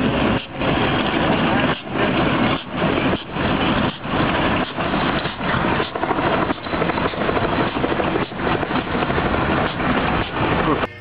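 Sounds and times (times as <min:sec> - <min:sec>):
diesel train passing: 0:00.0 - 0:10.8.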